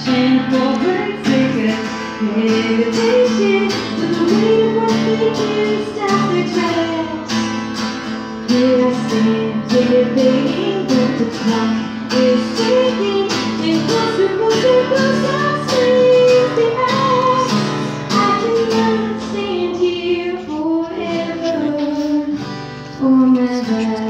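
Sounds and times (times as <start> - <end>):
woman singing: 0.0 - 7.5, 8.3 - 24.0
strummed acoustic guitar: 0.0 - 24.0.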